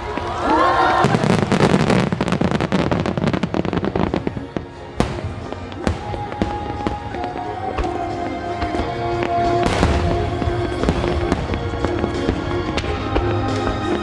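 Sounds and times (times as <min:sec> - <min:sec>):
fireworks crackling bangs: 0:00.0 - 0:14.0
music: 0:00.0 - 0:14.0.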